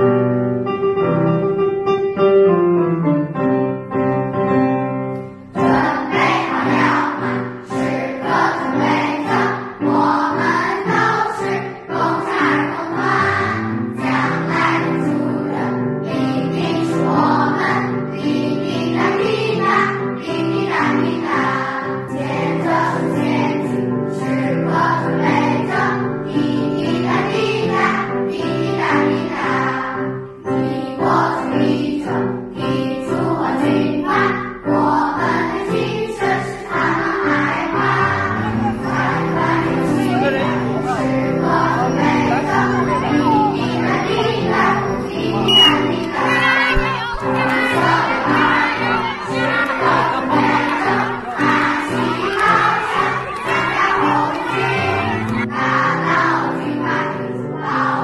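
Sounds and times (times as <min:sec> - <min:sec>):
piano: 0:00.0 - 0:58.0
children's choir singing: 0:03.8 - 0:58.0.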